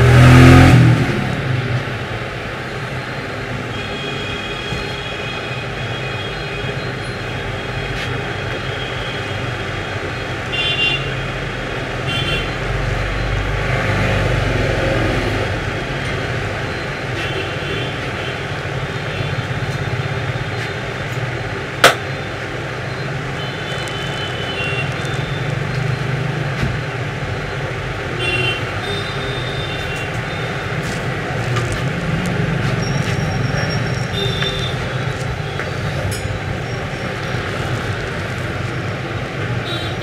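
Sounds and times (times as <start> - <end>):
road traffic noise: 0.0 - 40.0.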